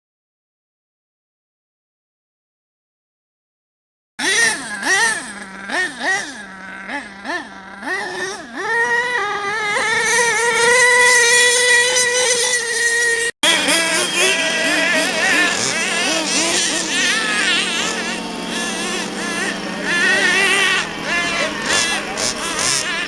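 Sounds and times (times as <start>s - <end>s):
small engine revving: 4.2s - 23.0s.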